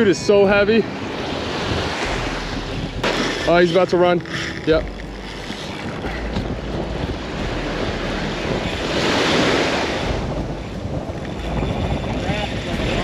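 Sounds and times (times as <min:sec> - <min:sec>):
surf breaking on shore: 0:00.0 - 0:13.0
wind buffeting microphone: 0:00.0 - 0:13.0.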